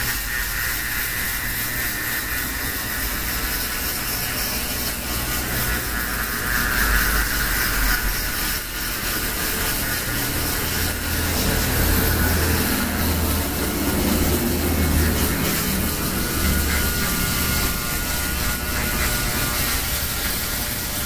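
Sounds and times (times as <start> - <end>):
electric shaver running: 0.0 - 21.0.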